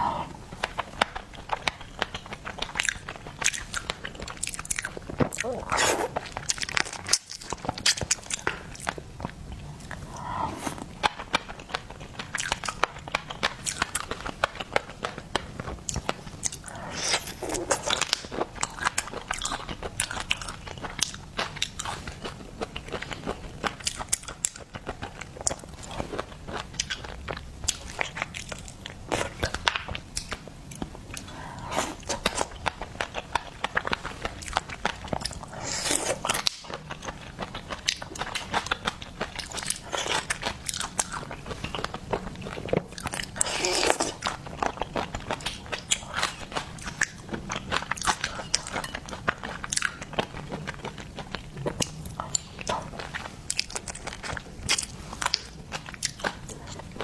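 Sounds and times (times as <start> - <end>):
person crunching food: 0.6 - 57.0.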